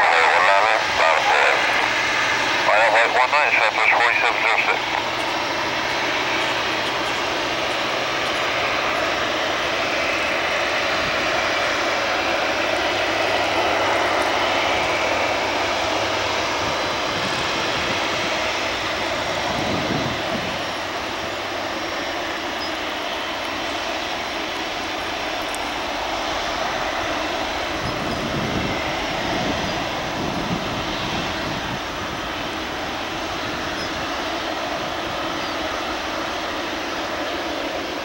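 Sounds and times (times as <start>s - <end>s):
jet engines at takeoff: 0.0s - 38.0s.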